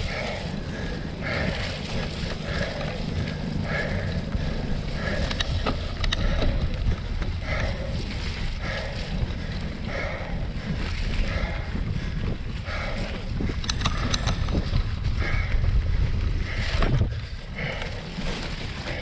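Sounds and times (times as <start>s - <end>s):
bike rumbling over mud: 0.0s - 19.0s
wind buffeting microphone: 0.0s - 19.0s.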